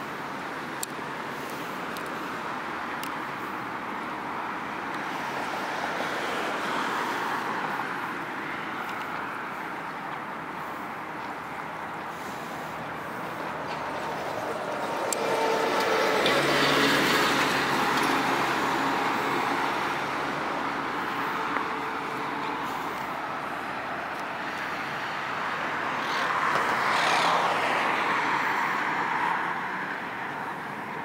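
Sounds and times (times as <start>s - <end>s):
bus engine humming: 0.0s - 26.0s
traffic hiss: 0.0s - 31.0s
vehicle passing: 5.2s - 30.6s.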